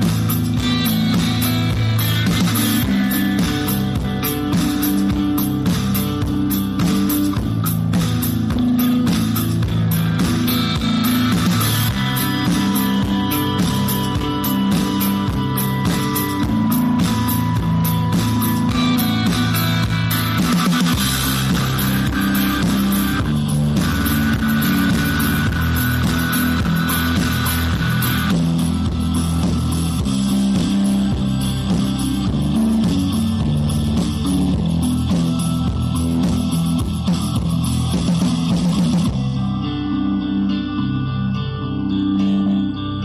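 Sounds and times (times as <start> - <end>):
bass line: 0.0 - 43.0
guitar background music: 0.0 - 43.0.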